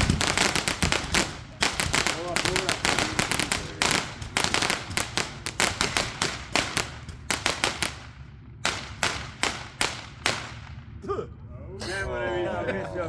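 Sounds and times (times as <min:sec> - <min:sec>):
firecracker string of sharp bangs: 0:00.0 - 0:11.0.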